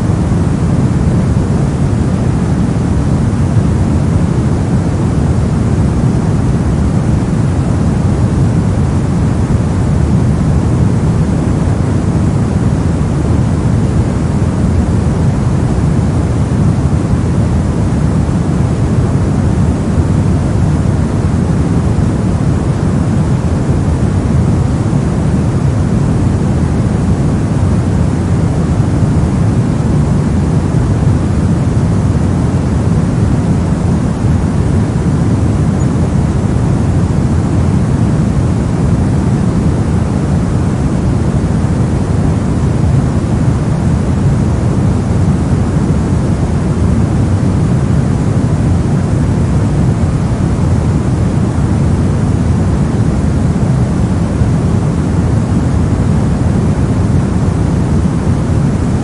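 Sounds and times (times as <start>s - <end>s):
brown noise hiss: 0.0s - 59.0s.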